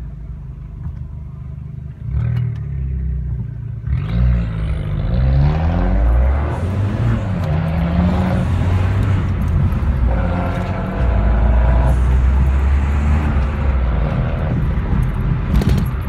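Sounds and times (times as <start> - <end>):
car engine running: 0.0 - 5.2, 6.0 - 16.0
tyre and road noise: 0.0 - 16.0.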